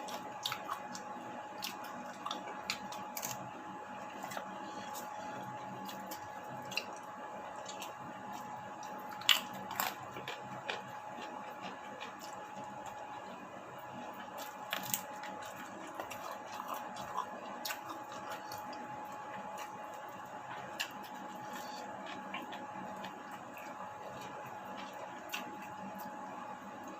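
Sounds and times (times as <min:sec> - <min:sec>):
chewing with clicks and smacks: 0:00.0 - 0:03.4, 0:04.0 - 0:26.9
steady high hum: 0:00.0 - 0:26.9.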